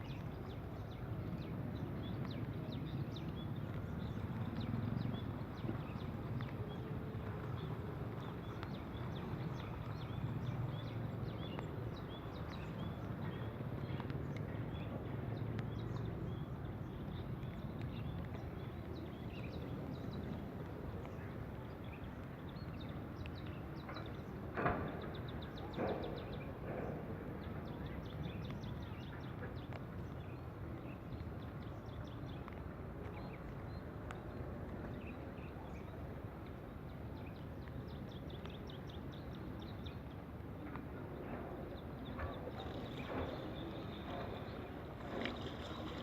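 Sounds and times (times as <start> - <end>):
outdoor background noise: 0.0 - 46.0.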